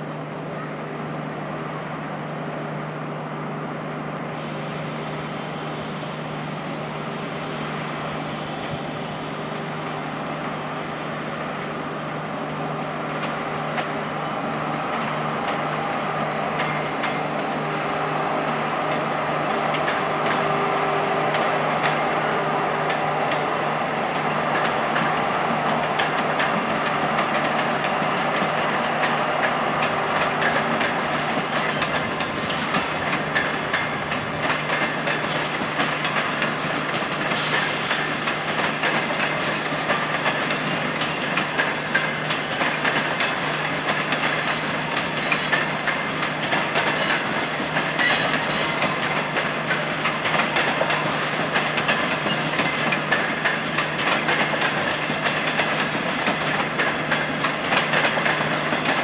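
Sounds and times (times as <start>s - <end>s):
electric locomotive hum: 0.0s - 59.0s.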